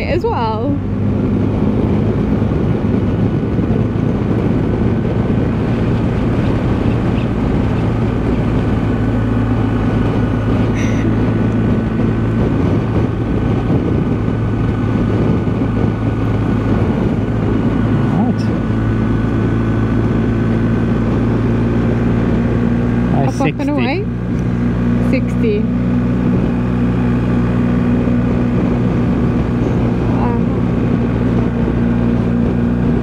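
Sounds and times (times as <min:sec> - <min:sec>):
motorcycle engine drone: 0:00.0 - 0:33.0
wind and road noise: 0:00.0 - 0:33.0.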